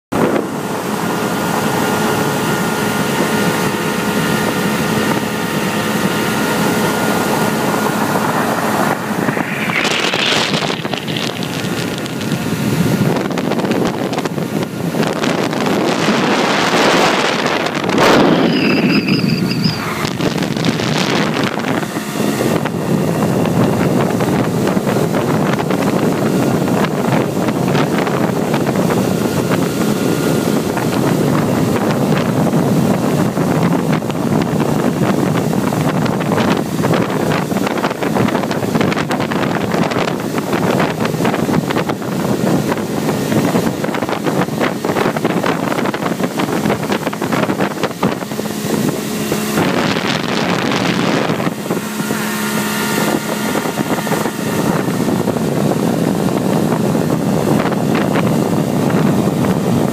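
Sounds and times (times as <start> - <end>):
motorboat engine hum: 0.1 - 59.9
rushing water: 0.1 - 59.9
wind buffeting microphone: 0.1 - 59.9.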